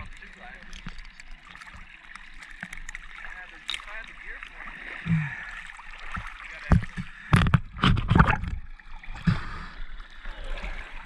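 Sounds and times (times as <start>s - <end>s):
sea water sloshing and splashing: 0.0s - 11.0s.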